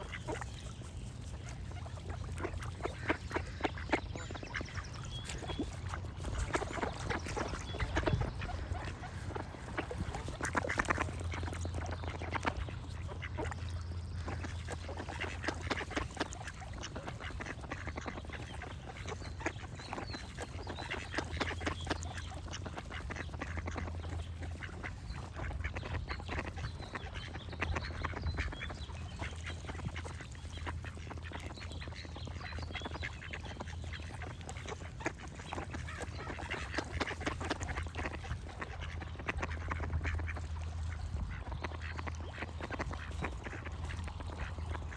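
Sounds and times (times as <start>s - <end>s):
ducks quacking: 0.0s - 44.9s.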